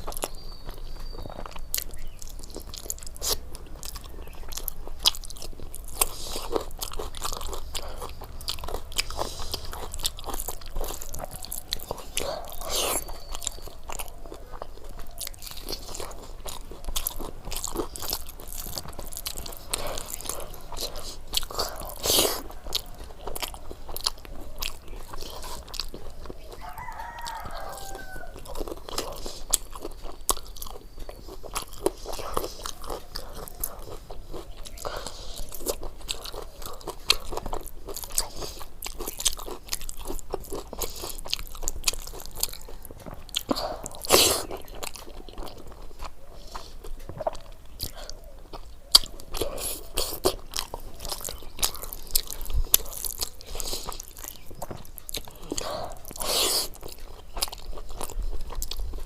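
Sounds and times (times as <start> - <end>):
crunching and chewing food: 0.0 - 59.0
mouth clicks: 0.0 - 59.0.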